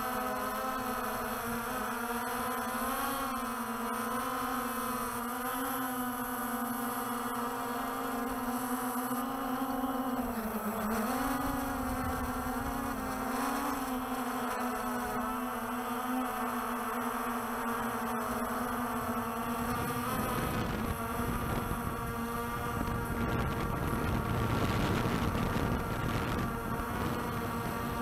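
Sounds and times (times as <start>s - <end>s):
drone rotors buzzing: 0.0s - 28.0s.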